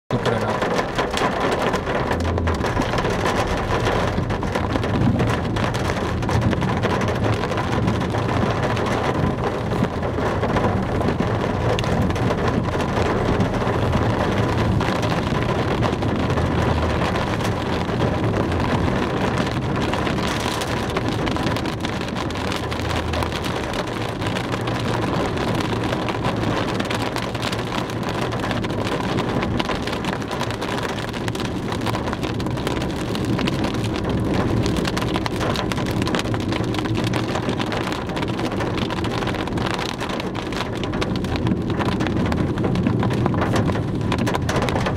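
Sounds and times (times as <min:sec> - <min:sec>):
rain pattering on car: 0:00.1 - 0:44.9
road and tyre noise: 0:00.1 - 0:44.9.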